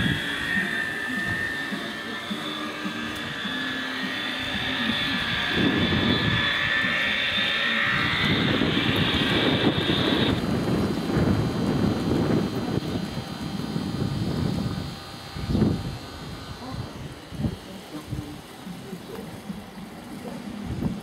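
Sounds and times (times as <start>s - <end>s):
wind on microphone: 0.0s - 1.8s, 4.3s - 18.5s, 19.3s - 21.0s
high whine: 0.0s - 21.0s.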